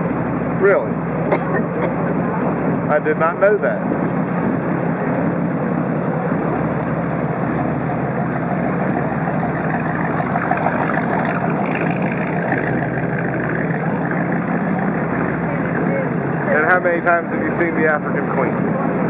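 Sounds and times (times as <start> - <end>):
boat engines humming: 0.0 - 19.0
passing boat engine: 0.0 - 19.0.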